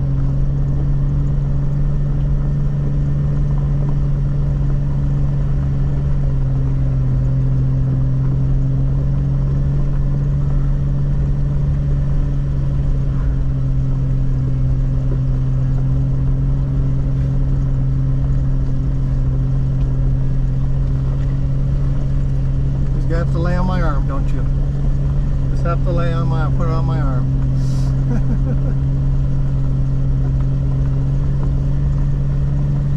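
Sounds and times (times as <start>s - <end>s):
low engine drone: 0.0s - 32.9s.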